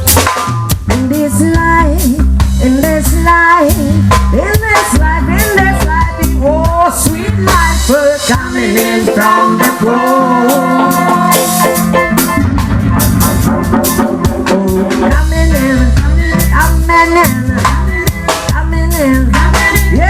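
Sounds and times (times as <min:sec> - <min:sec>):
drum kit: 0:00.0 - 0:20.0
live band music: 0:00.0 - 0:20.0.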